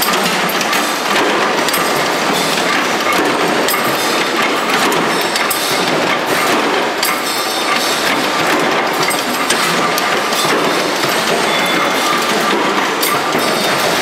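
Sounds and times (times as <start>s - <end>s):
mechanical punch presses stamping: 0.0s - 14.0s.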